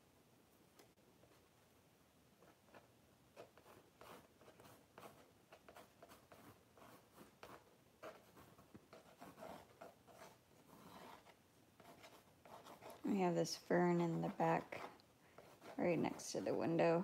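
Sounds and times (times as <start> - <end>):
pencil scratching on surface: 2.4 - 17.0.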